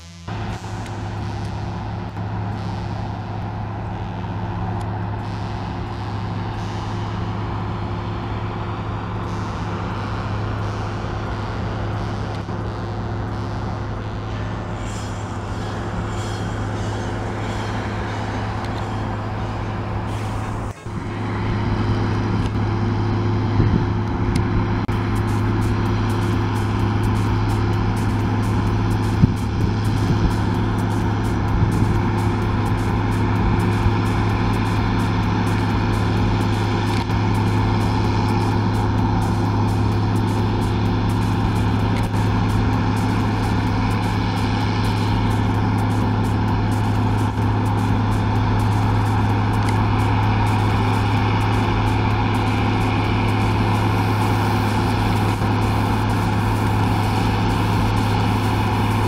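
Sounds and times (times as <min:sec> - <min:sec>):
combine harvesters droning: 0:00.0 - 0:59.0.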